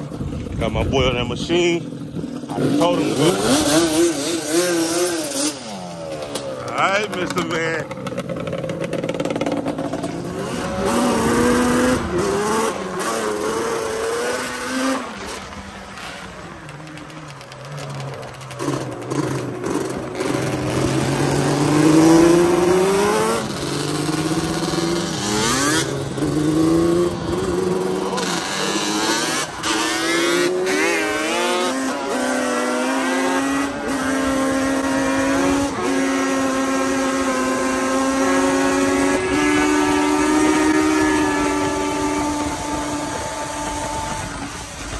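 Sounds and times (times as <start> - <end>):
quad engines revving: 0.0 - 44.9.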